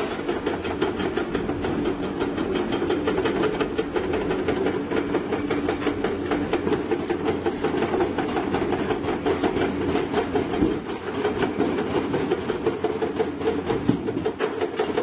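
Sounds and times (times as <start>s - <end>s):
excavator diesel engine running: 0.0s - 15.0s
fast irregular clatter: 0.0s - 15.0s.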